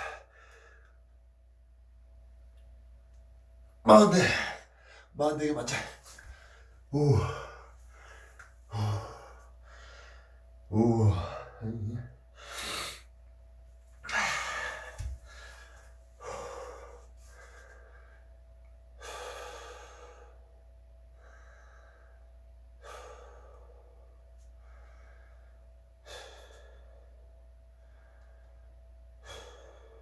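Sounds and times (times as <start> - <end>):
man breathing heavily: 0.0 - 1.1, 4.1 - 13.2, 14.0 - 30.0.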